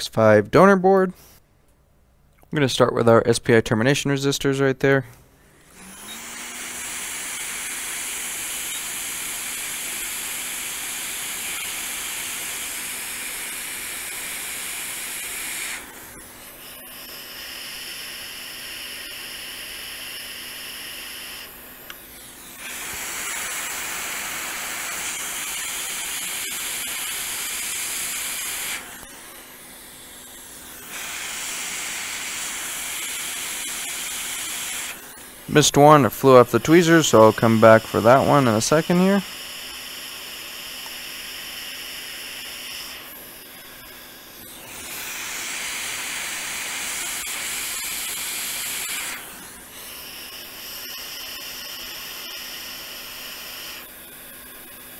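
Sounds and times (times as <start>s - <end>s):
hot air blower hissing: 5.5s - 54.9s.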